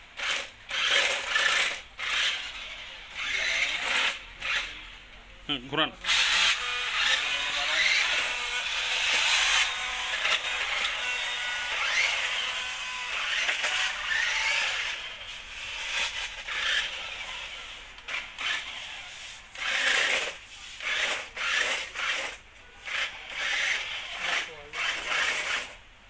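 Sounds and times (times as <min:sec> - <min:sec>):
toy car electric motors whirring: 0:00.2 - 0:05.0, 0:06.0 - 0:25.8.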